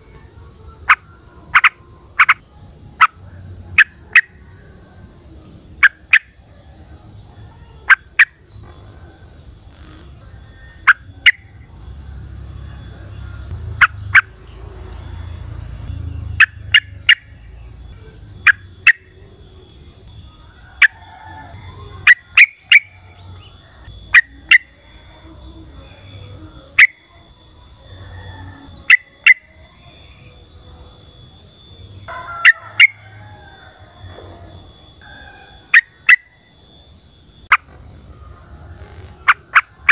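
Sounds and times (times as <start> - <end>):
insects trilling and whining: 0.0 - 39.9.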